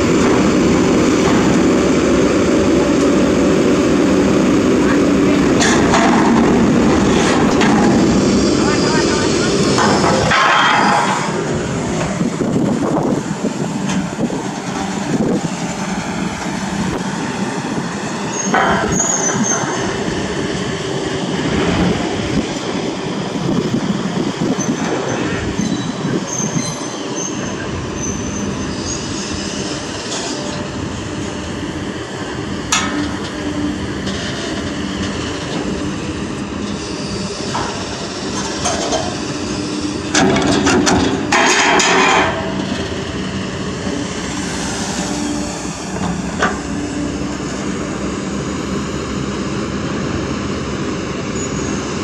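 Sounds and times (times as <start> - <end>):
excavator engine and hydraulics: 0.0 - 52.0.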